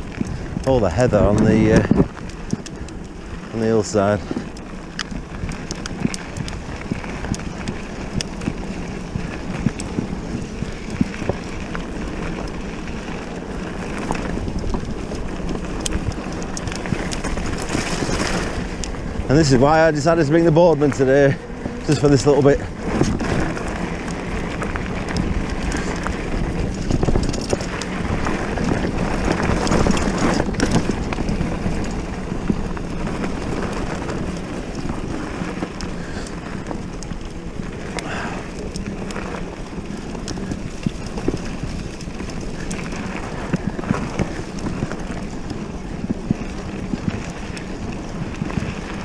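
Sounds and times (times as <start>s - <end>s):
bike tyres on rough track: 0.0s - 49.0s
wind on microphone: 0.0s - 49.0s.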